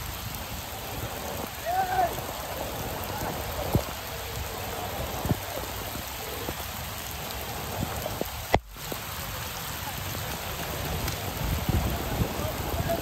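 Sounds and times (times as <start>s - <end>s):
heavy rainfall: 0.0s - 13.0s
raindrops tapping close by: 0.0s - 13.0s.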